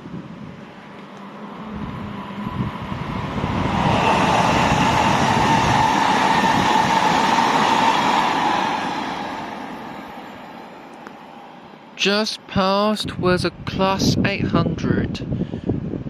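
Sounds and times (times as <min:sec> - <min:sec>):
train passing at speed: 0:00.0 - 0:14.5.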